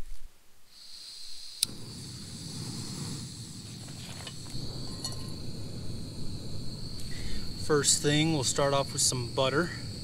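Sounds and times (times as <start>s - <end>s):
camp stove burner rushing: 0.7s - 10.0s
crickets chirping: 0.7s - 10.0s.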